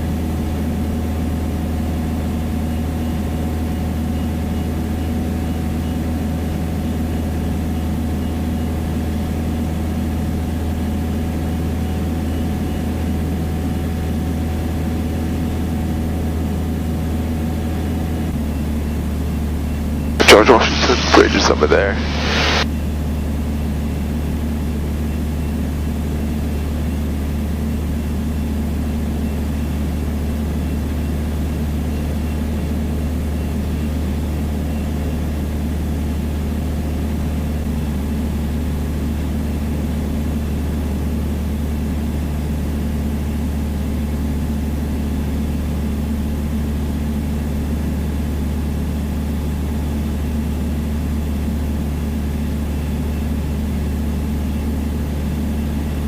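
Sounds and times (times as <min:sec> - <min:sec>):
aircraft engine droning: 0:00.0 - 0:56.0.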